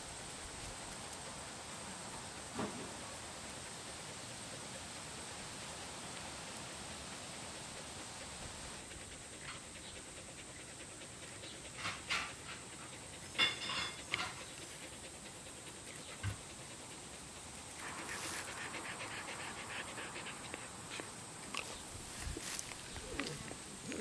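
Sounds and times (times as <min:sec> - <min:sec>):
dog panting: 0:00.8 - 0:24.0.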